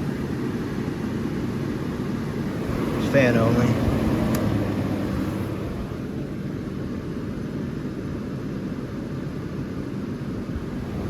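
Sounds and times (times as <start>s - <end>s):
air conditioner fan humming: 0.0s - 11.0s.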